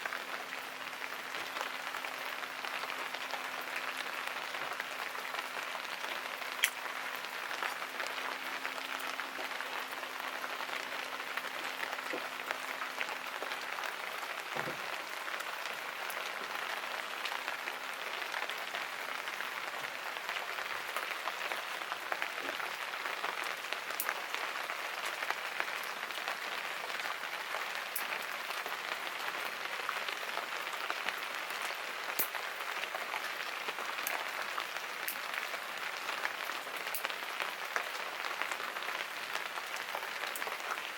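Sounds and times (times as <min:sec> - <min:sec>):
sharp ticks of rain: 0:00.0 - 0:40.9
steady rain falling: 0:00.0 - 0:40.9.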